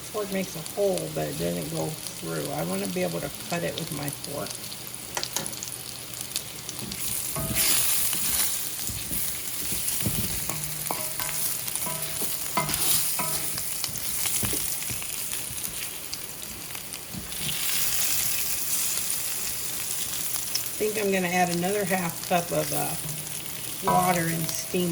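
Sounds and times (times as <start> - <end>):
beets sizzling in a pan: 0.0 - 24.9.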